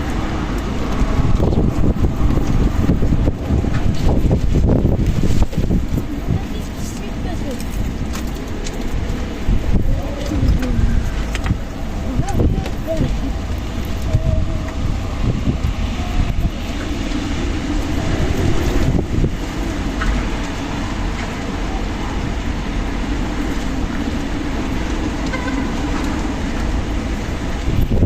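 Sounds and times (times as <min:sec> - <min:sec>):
strong wind with low rumble: 0:00.0 - 0:28.0.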